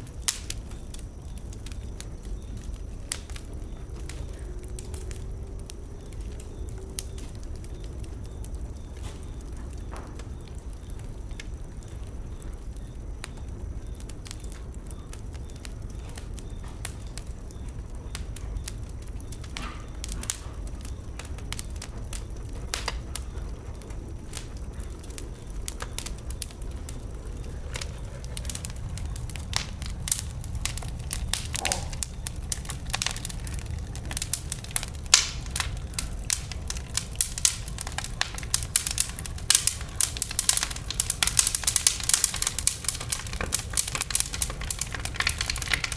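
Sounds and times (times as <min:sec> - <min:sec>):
bonfire crackles and pops: 0:00.0 - 0:45.9
fire low rumble: 0:00.0 - 0:45.9.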